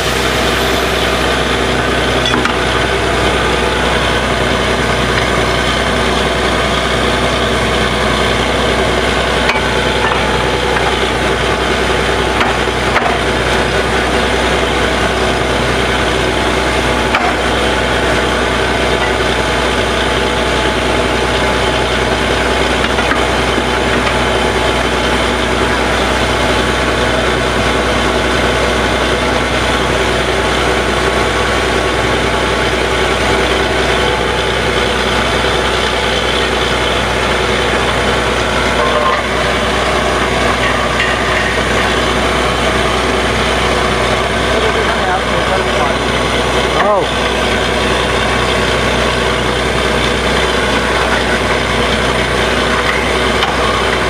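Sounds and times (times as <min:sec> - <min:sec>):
drilling rig engine droning: 0:00.0 - 0:54.0.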